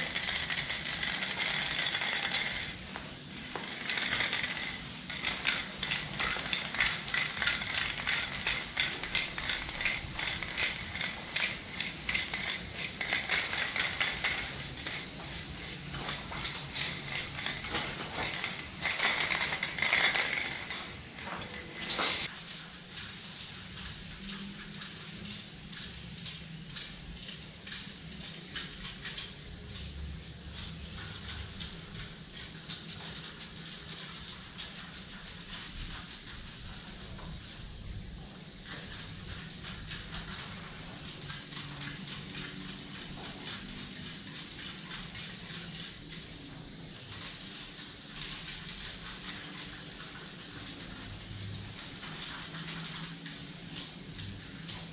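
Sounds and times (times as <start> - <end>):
spray can hissing: 0.0 - 54.9.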